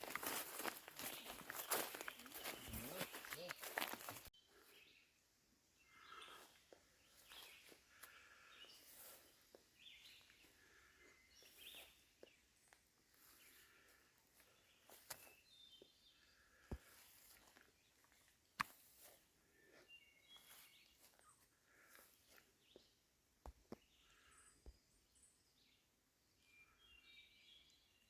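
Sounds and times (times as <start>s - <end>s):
faint bird chirps: 1.0s - 18.2s, 19.0s - 23.0s, 23.8s - 28.0s.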